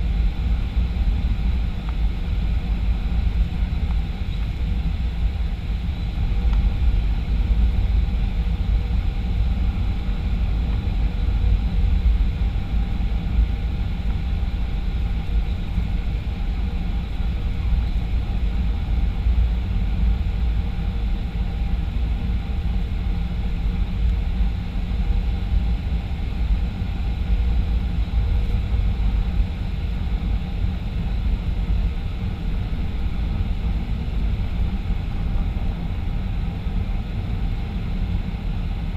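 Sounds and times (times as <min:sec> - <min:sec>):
aircraft engines and airflow rumble: 0:00.0 - 0:38.9.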